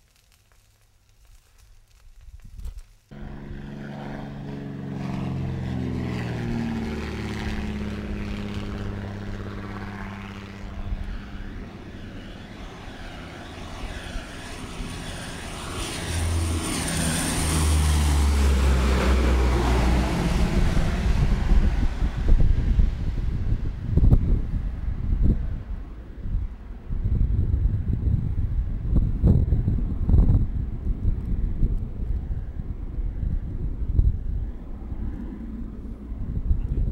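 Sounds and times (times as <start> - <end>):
turboprop plane flying low: 2.4 - 36.9
propeller plane passing overhead: 3.1 - 36.9.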